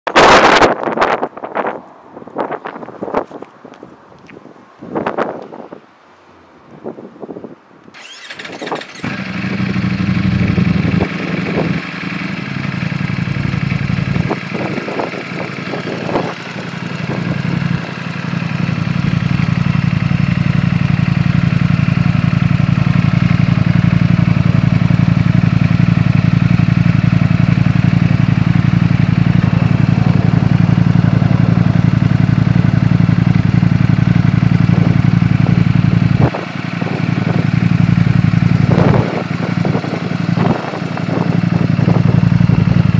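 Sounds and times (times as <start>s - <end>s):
motorcycle engine starting and idling: 7.9s - 42.9s.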